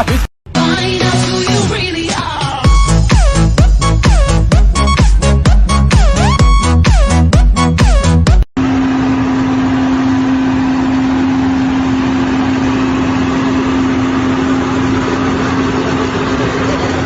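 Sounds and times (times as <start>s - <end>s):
engine running steadily: 0.6s - 17.0s.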